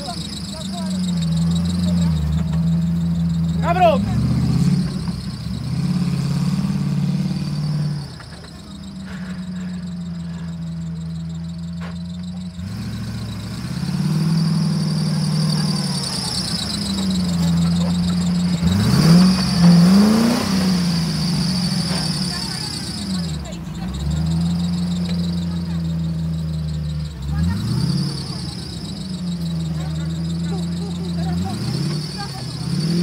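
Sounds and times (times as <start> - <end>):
truck engine running and revving: 0.0 - 33.0.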